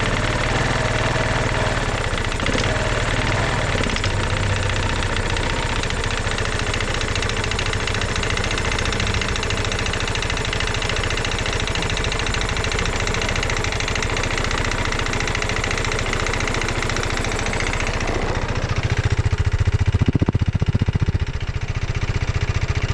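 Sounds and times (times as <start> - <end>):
scooter engine running: 0.0 - 22.9.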